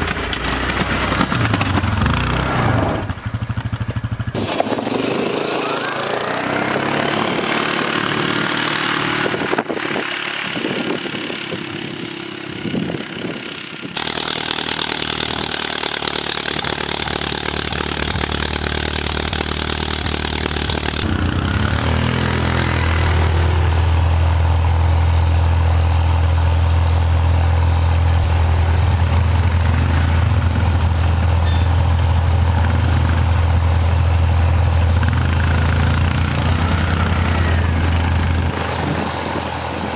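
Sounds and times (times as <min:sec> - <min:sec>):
small vehicle engines running: 0:00.0 - 0:39.9
low engine drone: 0:04.3 - 0:39.9.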